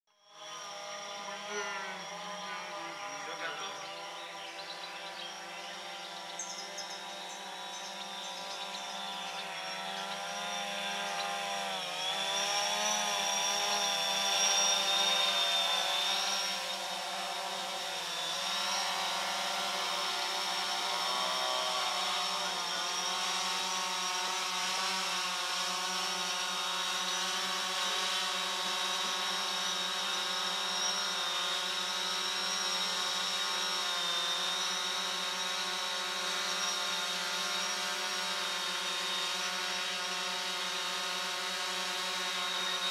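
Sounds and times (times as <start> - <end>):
drone propellers buzzing: 0.2 - 42.9.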